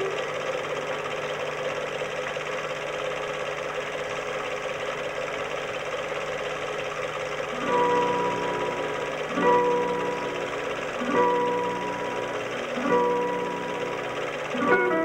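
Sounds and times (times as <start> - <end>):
film projector clatter: 0.0 - 15.0
projector whirr: 0.0 - 15.0.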